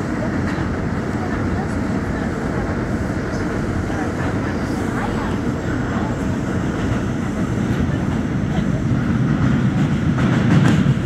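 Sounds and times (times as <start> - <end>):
subway train wheels rumbling on track: 0.0 - 11.0.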